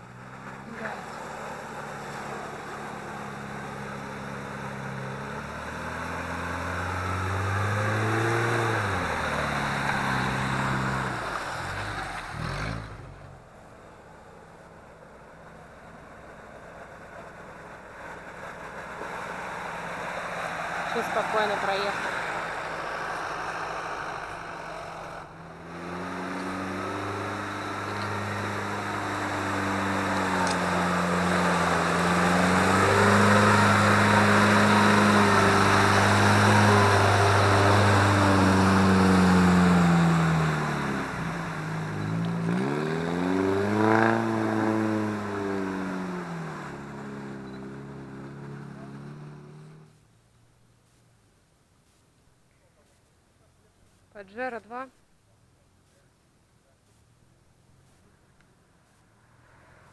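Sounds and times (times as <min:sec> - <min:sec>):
engine pulling under load: 0:00.0 - 0:50.0.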